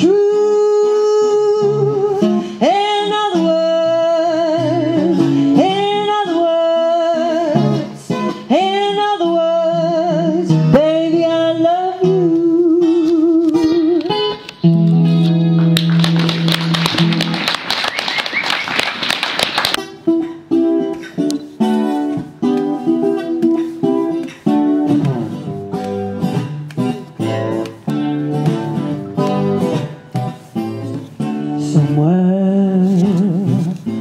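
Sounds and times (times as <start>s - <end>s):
guitar playing: 0.0s - 34.0s.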